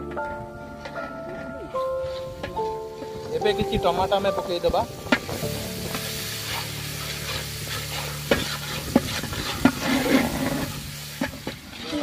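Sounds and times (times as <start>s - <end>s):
food sizzling in oil: 1.8s - 12.0s.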